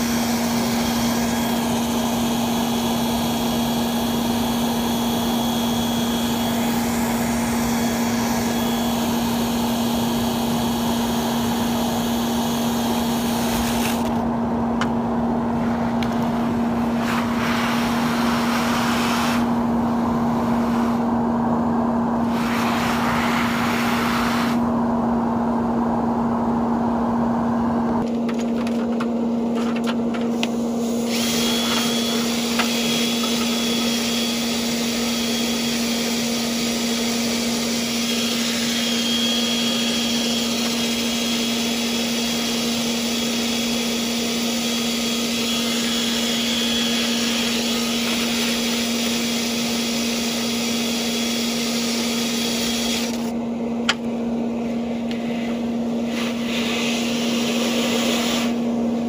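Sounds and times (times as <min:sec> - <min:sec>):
cordless drill spinning brush rod: 0:00.0 - 0:14.2, 0:16.1 - 0:21.1, 0:22.2 - 0:24.6, 0:30.3 - 0:53.4, 0:55.1 - 0:58.7
blower droning: 0:00.0 - 0:59.0.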